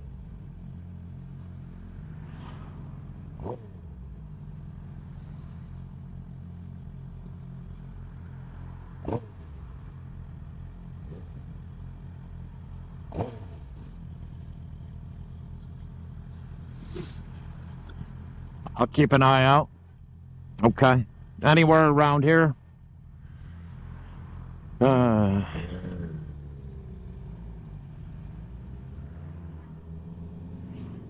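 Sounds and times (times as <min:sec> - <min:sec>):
motorcycle engine idling: 0:00.0 - 0:30.7.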